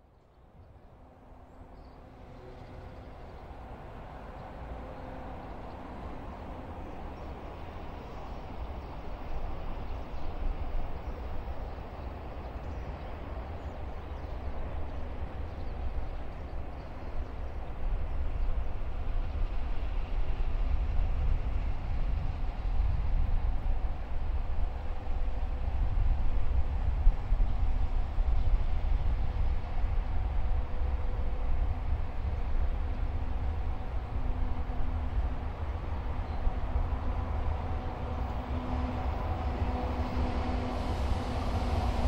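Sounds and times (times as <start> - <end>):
freight train rumble: 0.0 - 42.0.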